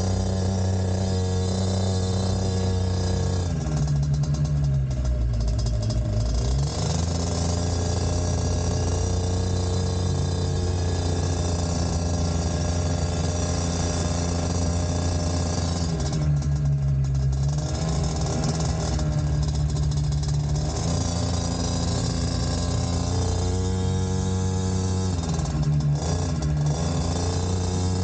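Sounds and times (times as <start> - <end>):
small motorbike engine running: 0.0 - 28.0.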